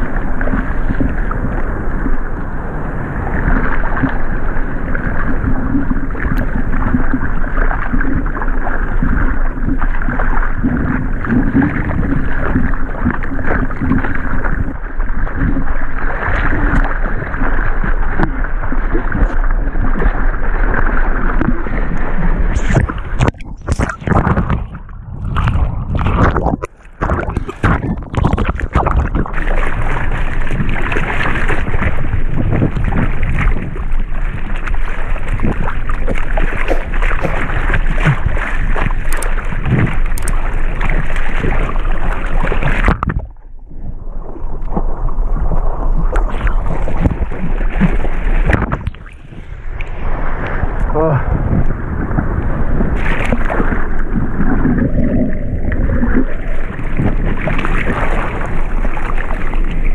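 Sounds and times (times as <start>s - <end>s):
sea water splashing and rushing: 0.0s - 59.9s.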